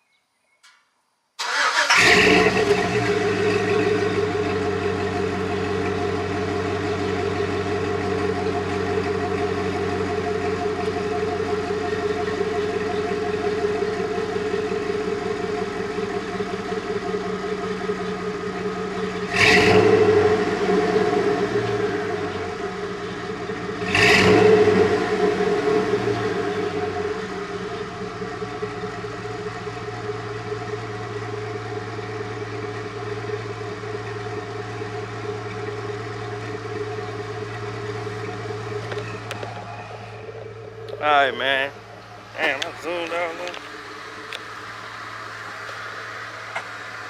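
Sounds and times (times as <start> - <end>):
pickup engine idling and revving: 1.4 - 47.0.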